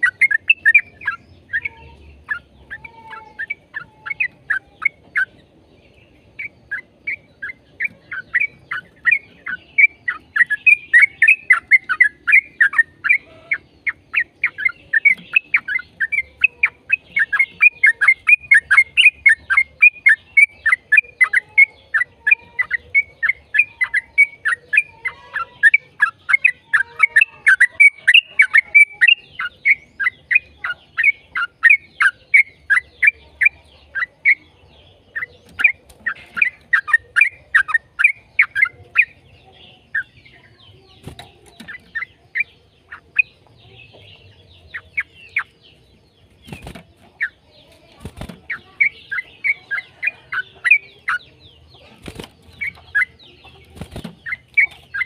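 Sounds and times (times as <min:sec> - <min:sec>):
bulbul chattering song: 0:00.0 - 0:55.0.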